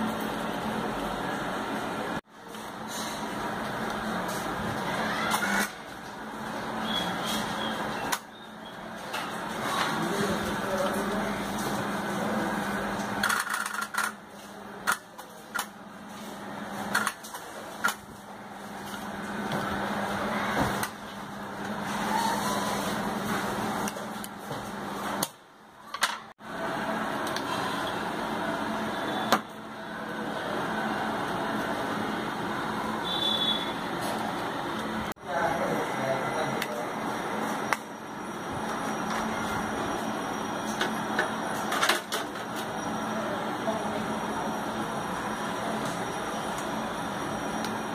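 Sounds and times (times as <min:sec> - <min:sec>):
low workshop hum: 0:00.0 - 0:47.9
steady background noise: 0:00.0 - 0:47.9.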